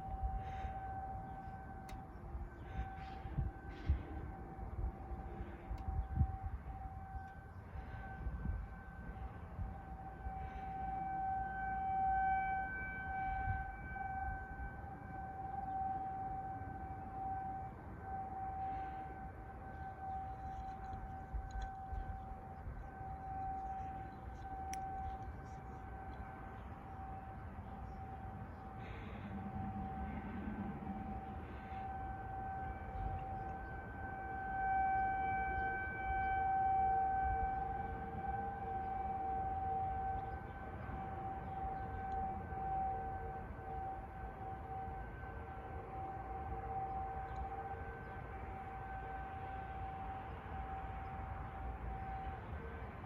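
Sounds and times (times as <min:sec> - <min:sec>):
outdoor warning siren: 0:00.0 - 0:53.0.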